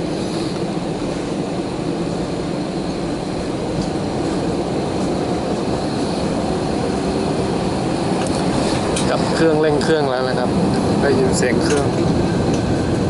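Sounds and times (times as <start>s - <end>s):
jet engine and airframe noise: 0.0s - 13.0s.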